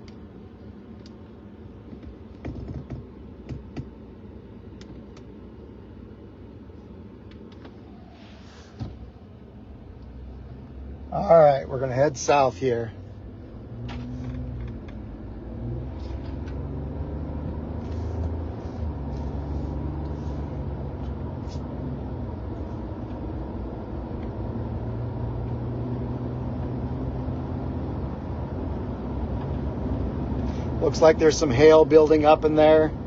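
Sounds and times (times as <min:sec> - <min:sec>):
car engine hum: 0:00.0 - 0:33.0
road noise: 0:00.0 - 0:33.0.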